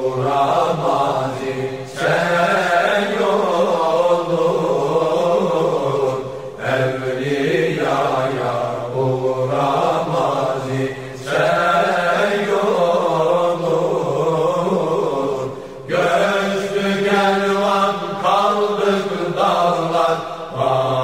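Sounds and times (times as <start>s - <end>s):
unaccompanied hymn singing: 0.0s - 21.0s.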